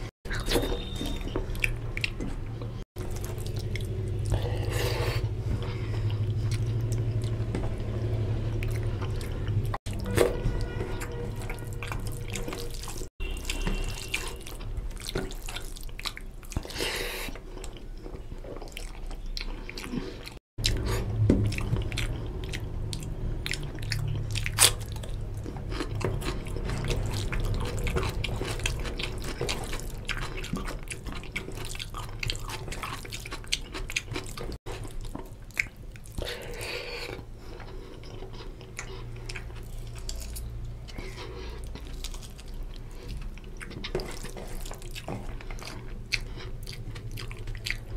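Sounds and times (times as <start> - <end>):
chewing and lip-smacking: 0.0 - 47.9.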